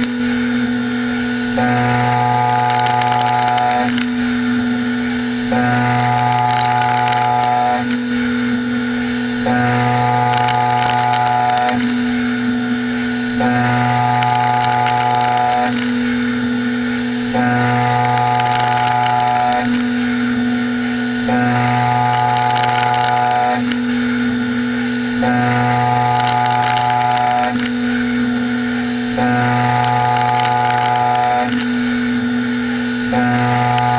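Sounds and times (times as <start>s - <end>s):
milling machine cutting metal: 0.0s - 33.9s.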